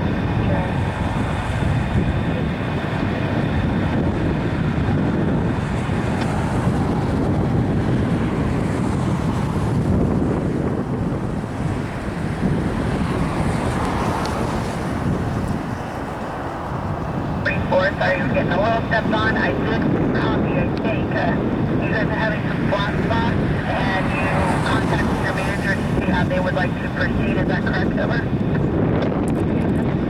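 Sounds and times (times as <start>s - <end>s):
freight train rumbling past: 0.0s - 28.9s
wind buffeting microphone: 0.0s - 30.0s.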